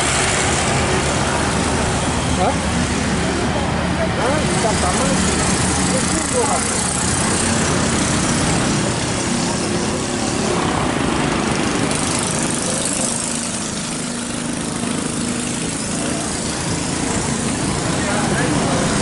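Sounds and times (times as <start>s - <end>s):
road noise: 0.0s - 19.0s
scooters and cars passing: 0.0s - 19.0s.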